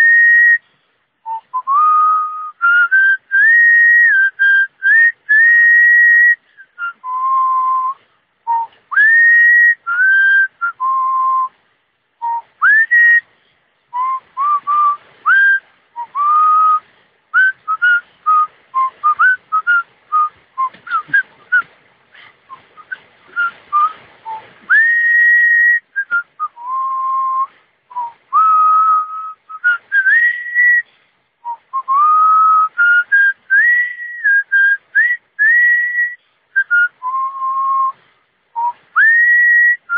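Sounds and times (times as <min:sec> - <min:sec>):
person whistling a tune: 0:00.0 - 0:00.6, 0:01.2 - 0:11.6, 0:12.2 - 0:13.3, 0:13.9 - 0:21.7, 0:22.5 - 0:38.0, 0:38.6 - 0:39.9.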